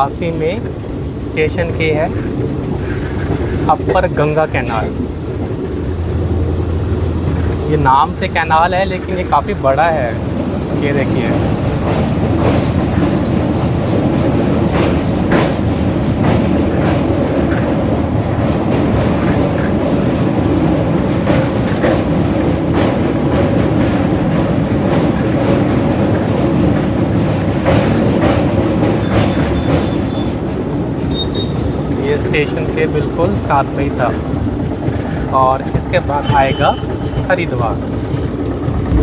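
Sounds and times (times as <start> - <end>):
train running at speed: 0.0 - 39.0
wheels clacking over rail joints: 1.9 - 39.0.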